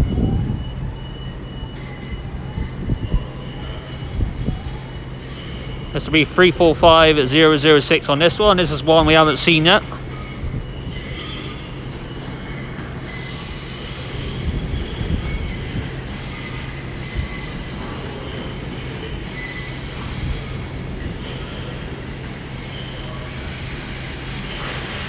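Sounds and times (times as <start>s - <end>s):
train running noise: 0.0s - 25.0s
train wheels squealing on rails: 0.0s - 25.0s.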